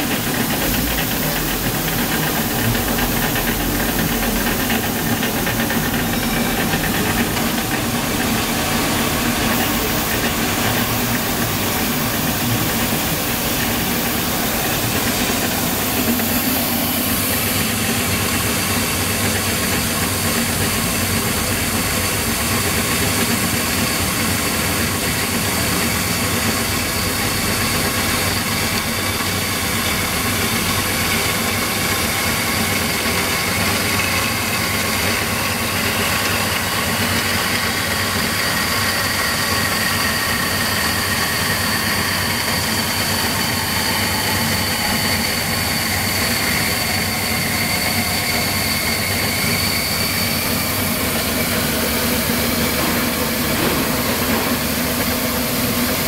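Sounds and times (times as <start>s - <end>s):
band saw cutting metal tube: 0.0s - 56.0s.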